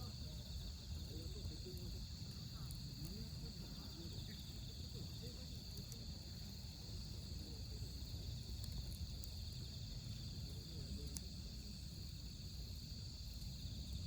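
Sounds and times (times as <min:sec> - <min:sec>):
campfire crackling and popping: 0:00.0 - 0:14.0
crickets trilling: 0:00.0 - 0:14.0.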